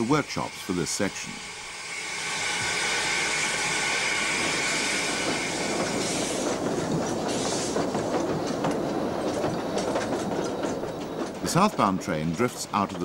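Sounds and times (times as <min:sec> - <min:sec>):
steam hissing: 0:00.0 - 0:12.8
train wheels clicking over rail joints: 0:02.6 - 0:13.0.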